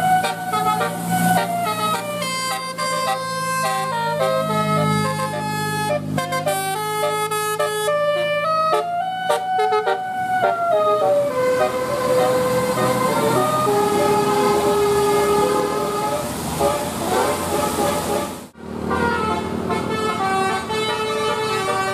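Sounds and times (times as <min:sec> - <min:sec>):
bus musical horn melody: 0:00.0 - 0:21.9
engine and road noise: 0:00.0 - 0:21.9.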